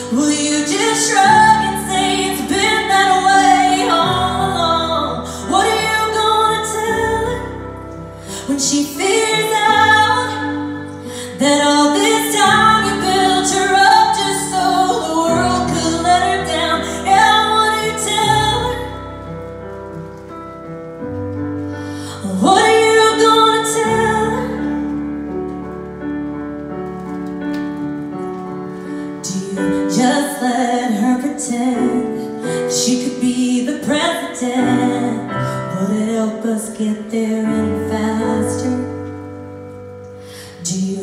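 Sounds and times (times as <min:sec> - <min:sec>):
woman singing a ballad: 0:00.0 - 0:19.4, 0:21.7 - 0:25.2, 0:28.9 - 0:41.0.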